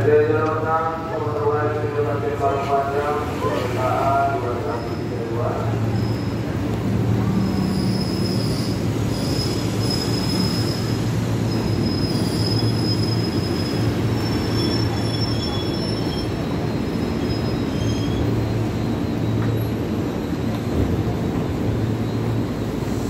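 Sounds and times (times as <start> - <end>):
train low hum: 0.0 - 23.0
train brakes squealing: 4.5 - 23.0.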